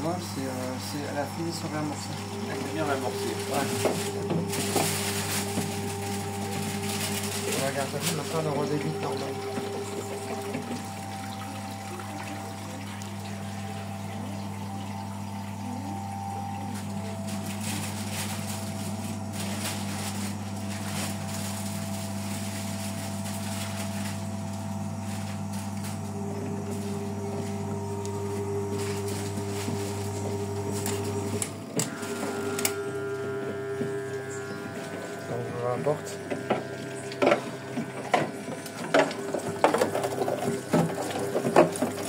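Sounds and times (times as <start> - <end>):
washing machine hum: 0.0 - 42.0
water running into drum: 0.0 - 42.0.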